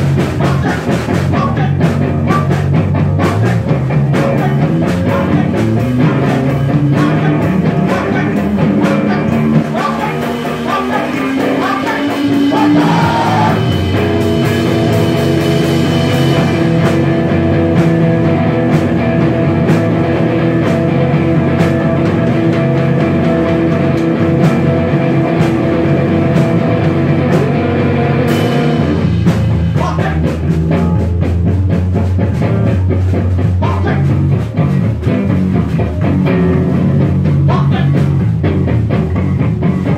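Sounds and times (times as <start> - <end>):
drums: 0.0 - 39.9
rock band playing: 0.0 - 39.9.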